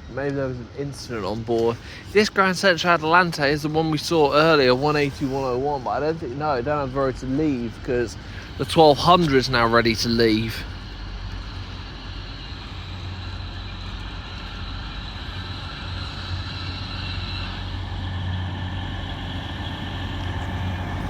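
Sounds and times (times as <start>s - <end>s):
train low hum: 0.0s - 21.0s.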